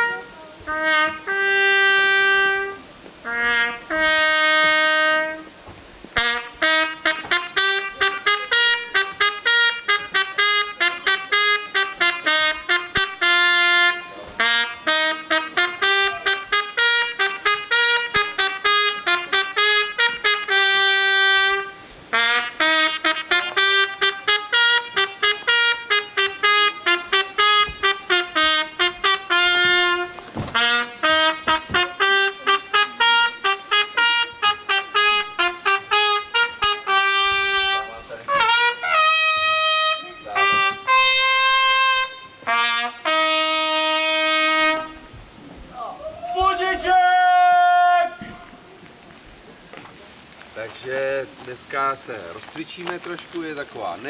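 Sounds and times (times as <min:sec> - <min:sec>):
solo brass instrument melody: 0:00.0 - 0:45.4.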